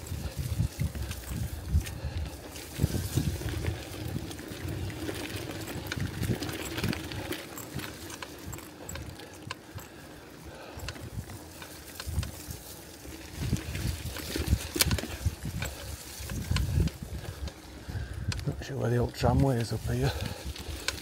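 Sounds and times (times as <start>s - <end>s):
wind rumble on microphone: 0.0s - 9.9s, 10.6s - 21.0s
bicycle clicks and rattles: 0.0s - 21.0s.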